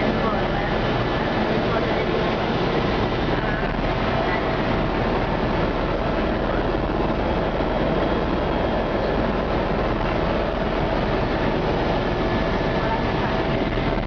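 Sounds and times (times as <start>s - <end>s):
helicopter engine and rotors: 0.0s - 14.0s.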